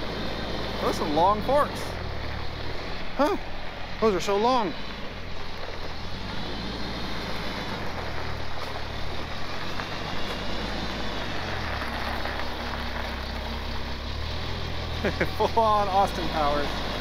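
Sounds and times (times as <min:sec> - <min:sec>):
forklift engine running: 0:00.0 - 0:17.0.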